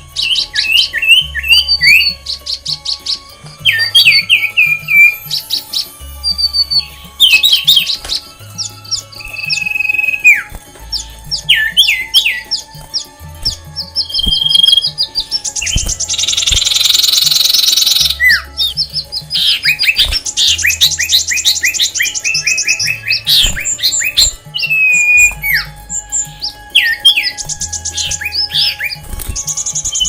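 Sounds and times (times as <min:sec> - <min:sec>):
fast bird trills: 0:00.0 - 0:30.0
low music track: 0:00.0 - 0:30.0
songbirds chirping and whistling: 0:00.0 - 0:30.0.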